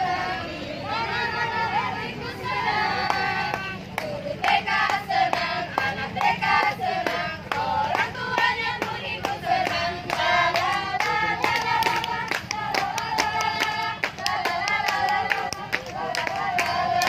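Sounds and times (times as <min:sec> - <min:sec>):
group singing: 0:00.0 - 0:17.0
rhythmic hand clapping: 0:00.9 - 0:17.0.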